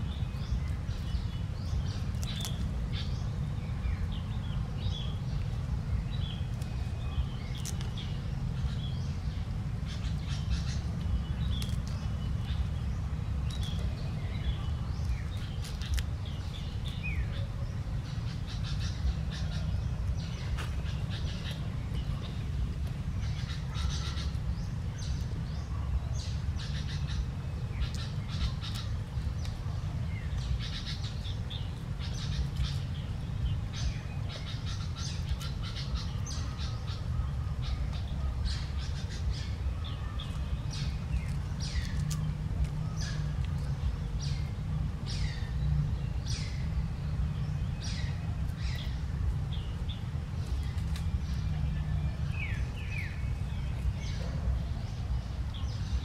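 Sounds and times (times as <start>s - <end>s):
birds chirping: 0.0s - 56.0s
steady low rumble: 0.0s - 56.0s.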